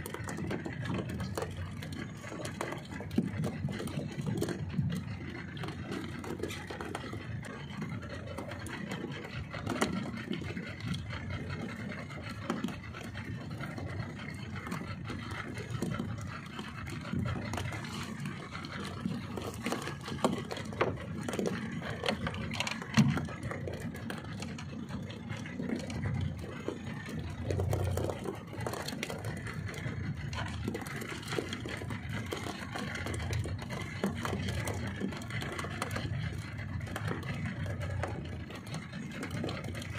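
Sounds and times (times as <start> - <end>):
boat and tackle rattling: 0.0 - 39.9
water noise: 0.0 - 39.9
wind: 0.0 - 39.9.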